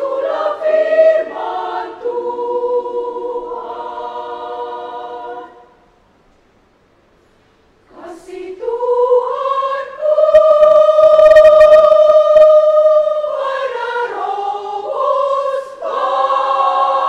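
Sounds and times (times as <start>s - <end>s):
women's choir singing: 0.0s - 5.8s, 7.8s - 17.0s.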